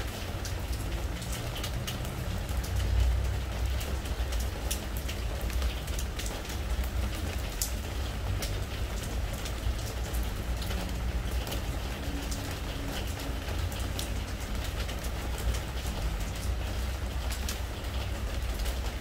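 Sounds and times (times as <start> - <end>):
rain patter on wooden deck: 0.0 - 19.0.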